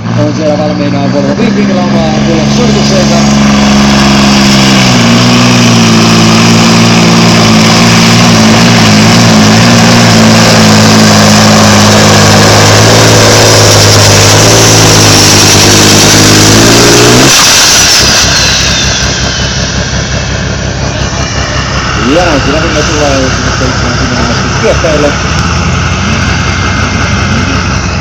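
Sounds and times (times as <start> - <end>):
high whine winding down: 0.0 - 28.0
tractor diesel engine at full load: 0.0 - 28.0.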